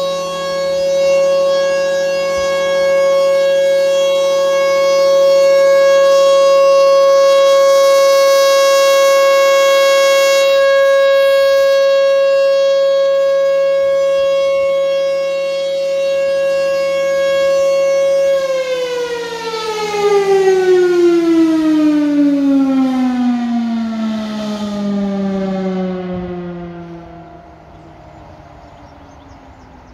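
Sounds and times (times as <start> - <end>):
rotating siren winding down: 0.0 - 29.9.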